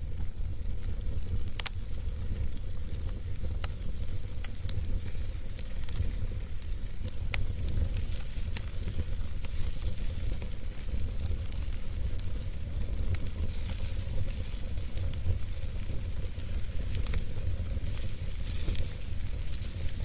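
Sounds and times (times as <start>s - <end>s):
burning logs crackling and popping: 0.0s - 20.0s
wood fire burning: 0.0s - 20.0s.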